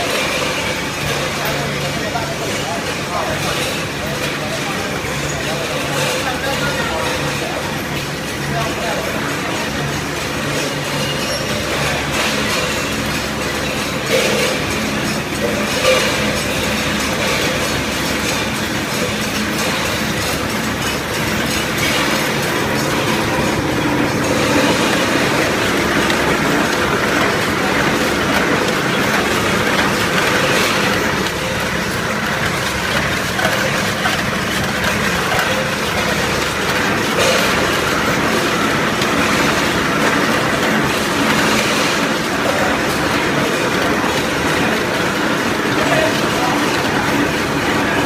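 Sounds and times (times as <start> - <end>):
can seaming machine clatter: 0.0 - 48.0.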